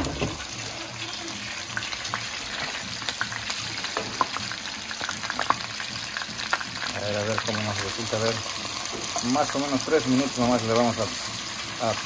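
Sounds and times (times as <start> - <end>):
shrimp sizzling in oil: 0.0 - 12.0.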